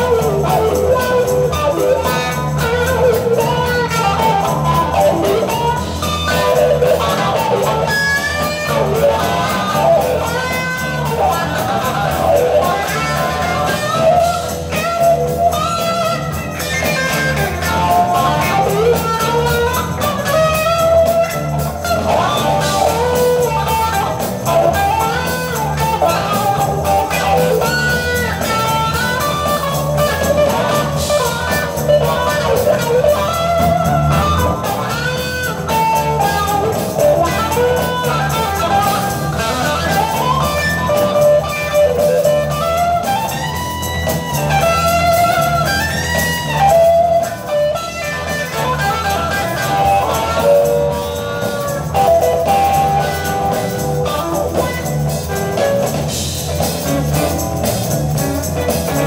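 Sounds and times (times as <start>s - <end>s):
bass and drums: 0.0s - 59.0s
blues guitar lead: 0.0s - 59.0s
tambourine shaking: 0.0s - 59.0s.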